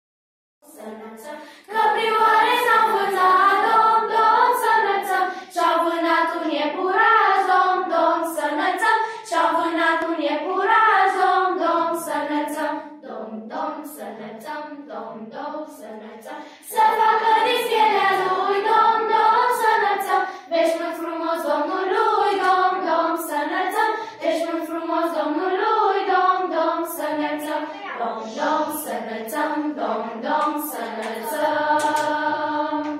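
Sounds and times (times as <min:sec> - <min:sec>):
children's choir singing carol: 0:00.6 - 0:32.9.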